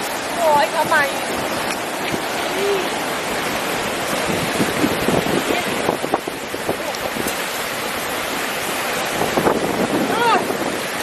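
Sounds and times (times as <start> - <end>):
surf washing on shore: 0.0 - 11.0
wind buffeting microphone: 0.0 - 11.0.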